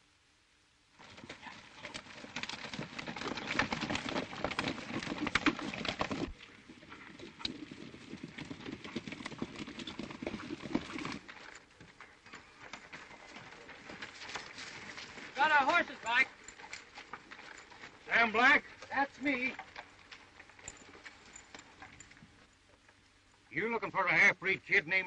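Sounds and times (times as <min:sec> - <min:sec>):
horse hooves clopping on dirt: 0:01.0 - 0:23.5.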